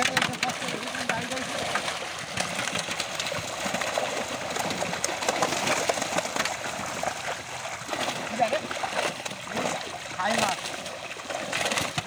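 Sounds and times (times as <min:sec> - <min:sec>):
fish thrashing and splashing: 0:00.0 - 0:12.0.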